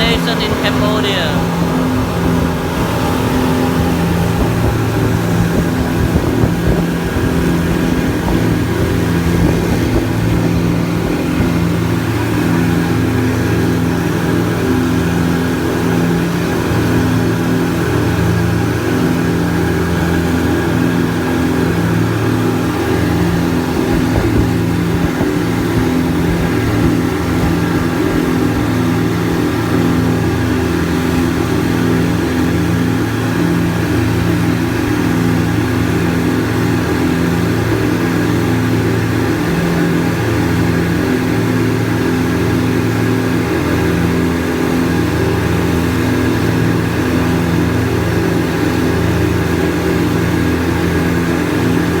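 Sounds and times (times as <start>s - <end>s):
speedboat engine running: 0.0s - 52.0s.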